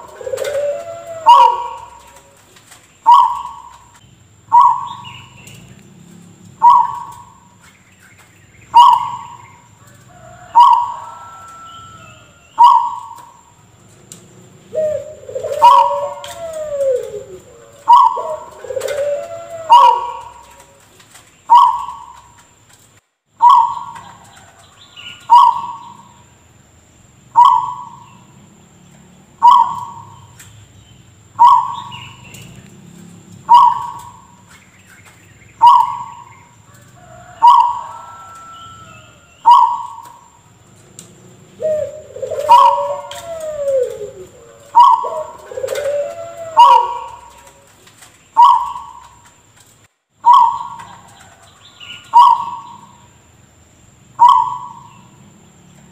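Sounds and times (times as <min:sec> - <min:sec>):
falling whistled bird calls: 0:00.0 - 0:05.8, 0:06.6 - 0:13.6, 0:14.6 - 0:22.4, 0:23.4 - 0:26.3, 0:29.4 - 0:32.7, 0:33.4 - 0:40.6, 0:41.5 - 0:49.4, 0:50.2 - 0:53.1, 0:54.1 - 0:55.2.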